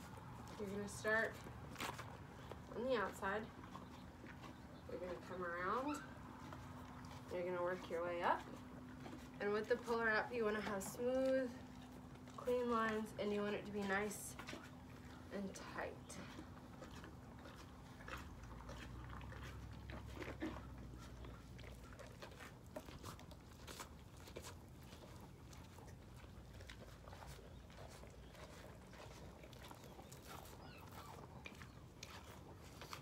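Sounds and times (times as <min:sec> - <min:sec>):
horse chewing feed: 0:00.0 - 0:33.0.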